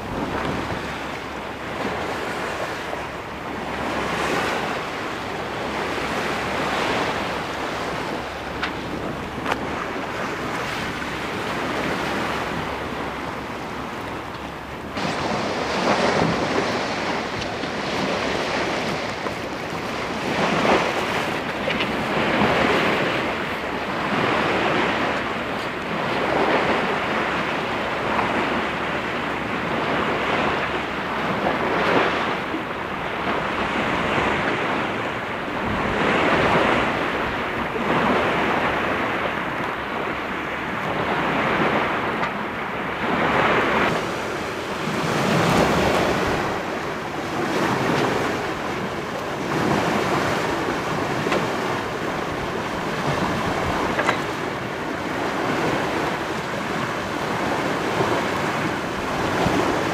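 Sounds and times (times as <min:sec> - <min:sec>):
water splashing along boat hull: 0:00.0 - 0:59.9
wind buffeting microphone: 0:00.0 - 0:59.9.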